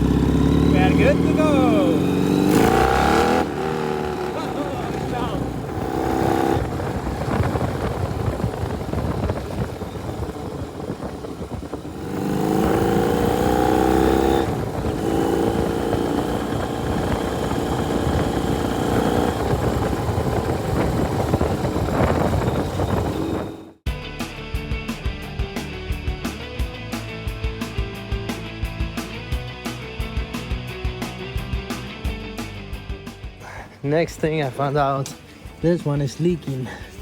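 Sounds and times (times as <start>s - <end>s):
motorcycle engine idling and revving: 0.0s - 33.5s.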